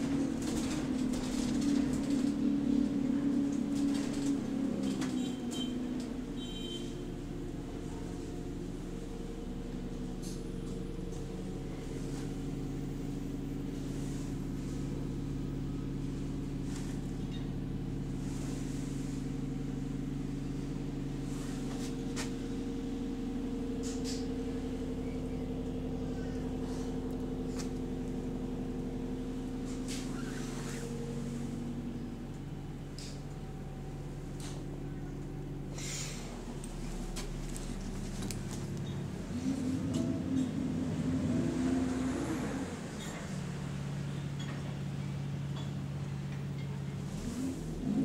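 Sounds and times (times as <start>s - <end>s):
engine cooling fan droning hum: 0.0s - 48.0s.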